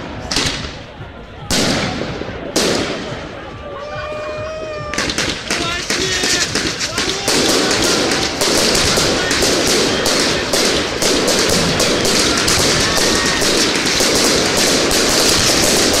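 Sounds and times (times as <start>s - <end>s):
fireworks bangs and crackles: 0.0s - 3.7s, 4.8s - 16.0s.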